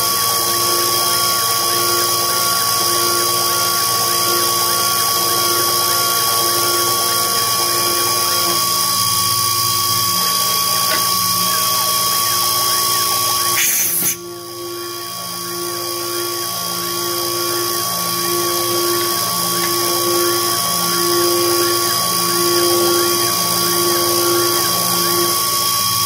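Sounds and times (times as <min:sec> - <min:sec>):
milling machine whining: 0:00.0 - 0:26.0.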